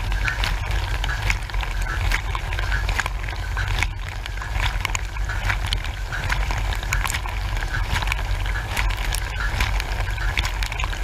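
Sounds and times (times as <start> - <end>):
dishwasher low rumble: 0.0 - 11.0
sharp drips and taps: 0.0 - 11.0
water jets spattering: 0.0 - 11.0.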